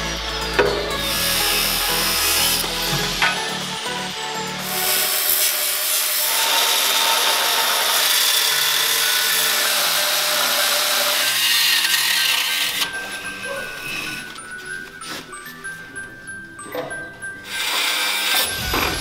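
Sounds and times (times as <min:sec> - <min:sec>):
angle grinder cutting steel: 0:00.0 - 0:15.0, 0:17.4 - 0:19.0.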